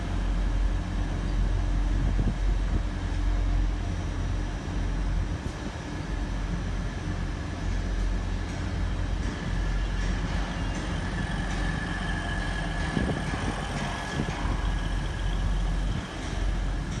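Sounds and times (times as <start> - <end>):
diesel engine low rumble: 0.0 - 17.0
high engine whine: 0.0 - 17.0.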